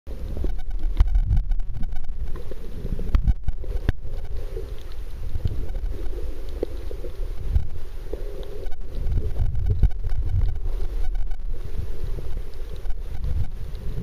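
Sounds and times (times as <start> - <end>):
underwater rumble of moving water: 0.1 - 14.0
faint underwater clicks and pops: 0.3 - 14.0.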